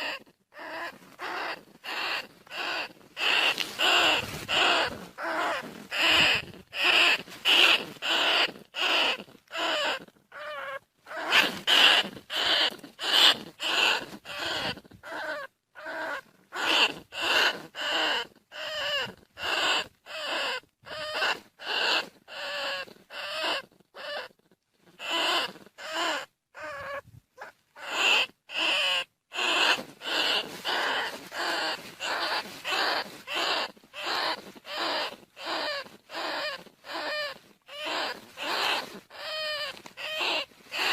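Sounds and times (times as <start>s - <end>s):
rat squeaky cries: 0.0s - 40.9s.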